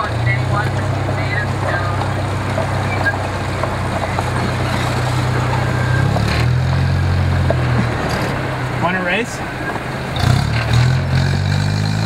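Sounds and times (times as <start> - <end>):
small locomotive engine drone: 0.0 - 12.0.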